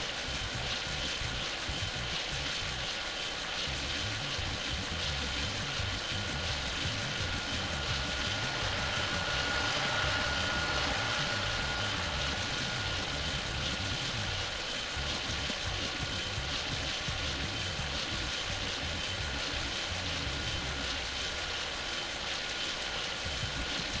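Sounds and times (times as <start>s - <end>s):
faint engine whine: 0.0s - 24.0s
jet engines rushing: 0.0s - 24.0s.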